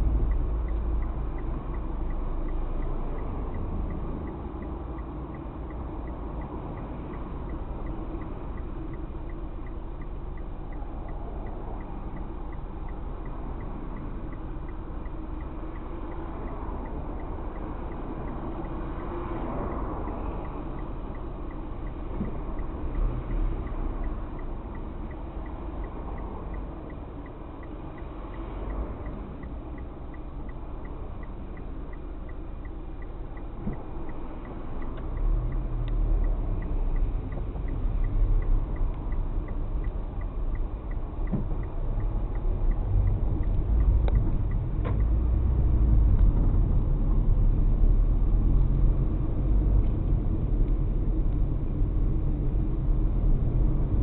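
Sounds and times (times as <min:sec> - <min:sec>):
car road and engine rumble: 0:00.0 - 0:54.0
light regular ticking: 0:00.0 - 0:54.0.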